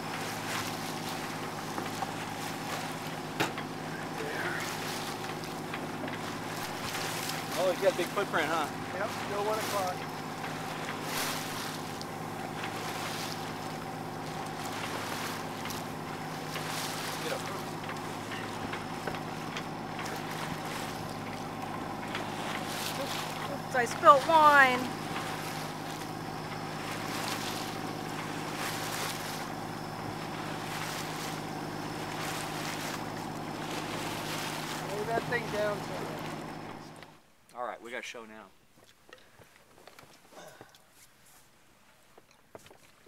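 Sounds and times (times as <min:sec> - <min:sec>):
water washing along a hull: 0:00.0 - 0:37.2
low engine hum: 0:00.0 - 0:37.3.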